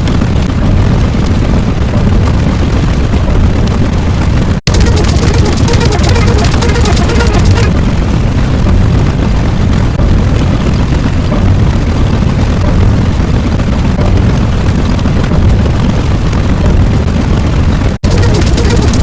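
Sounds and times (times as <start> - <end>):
low rumbling: 0.0 - 19.0.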